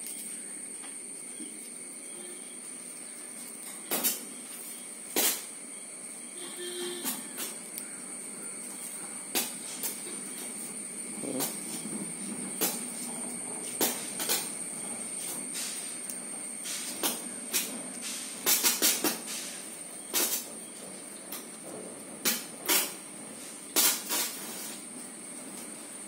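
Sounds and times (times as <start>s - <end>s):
high insect hiss: 0.0s - 26.0s.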